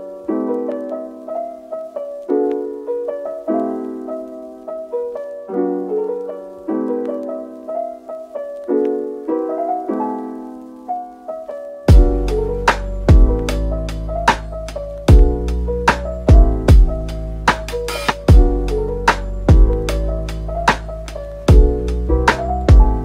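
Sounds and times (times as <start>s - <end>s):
soft piano chords: 0.0s - 23.0s.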